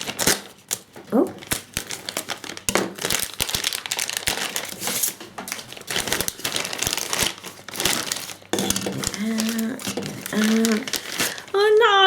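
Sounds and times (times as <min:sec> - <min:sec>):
packaging rustling and crackling: 0:00.0 - 0:12.0.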